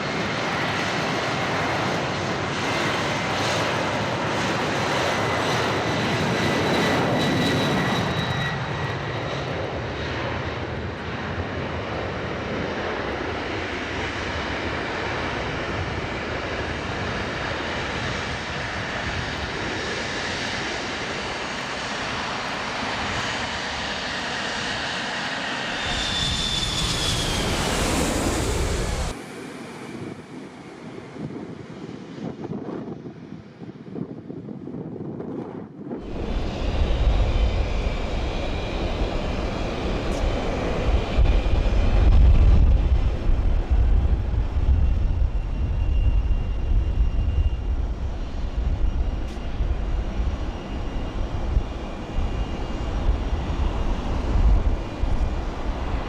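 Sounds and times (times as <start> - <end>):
jet airliner engines passing overhead: 0.0 - 56.0.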